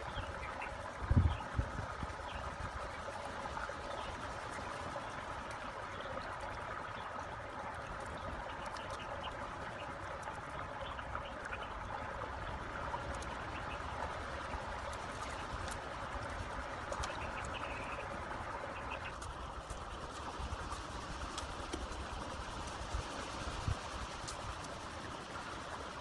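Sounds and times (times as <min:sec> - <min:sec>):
shallow stream rushing: 0:00.0 - 0:26.0.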